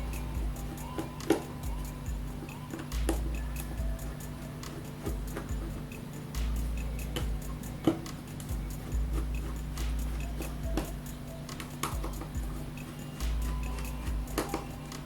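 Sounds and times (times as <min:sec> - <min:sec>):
background music: 0:00.0 - 0:15.0
hand tools clicking and tapping: 0:00.0 - 0:15.0.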